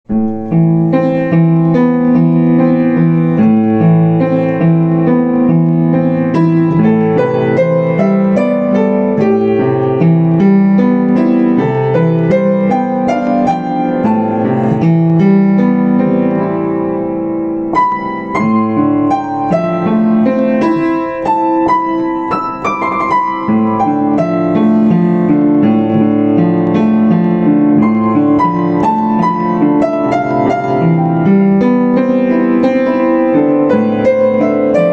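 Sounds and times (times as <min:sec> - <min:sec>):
upright piano playing: 0:00.0 - 0:34.9.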